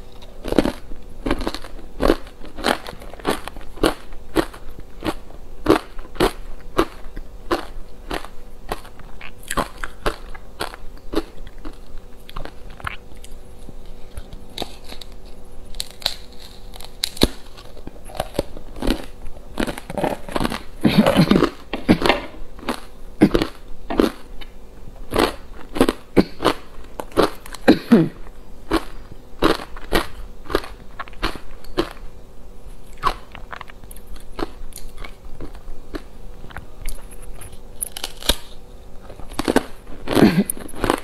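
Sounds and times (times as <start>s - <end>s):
crunching of chewed ice: 0.0s - 24.3s, 25.1s - 27.8s, 28.7s - 32.0s, 32.9s - 41.0s.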